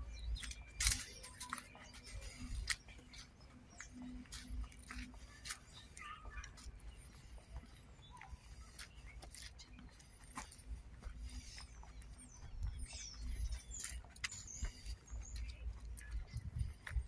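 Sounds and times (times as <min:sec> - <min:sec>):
birds chirping: 0:00.0 - 0:17.0
footsteps on dry leaves: 0:00.0 - 0:17.0.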